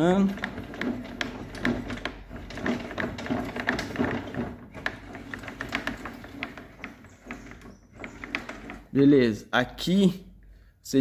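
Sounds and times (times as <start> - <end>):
saw crank clicking and rattling: 0.0 - 9.3.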